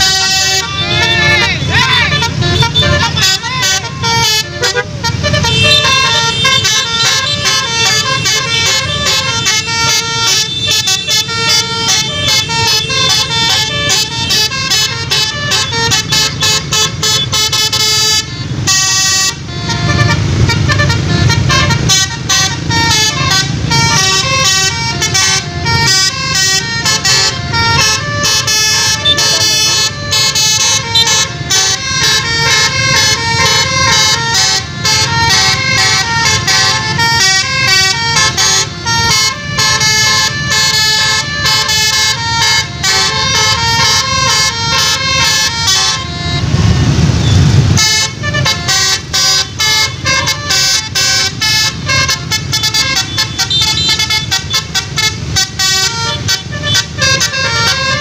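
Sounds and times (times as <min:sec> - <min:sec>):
bus musical horn melody: 0:00.0 - 0:58.0.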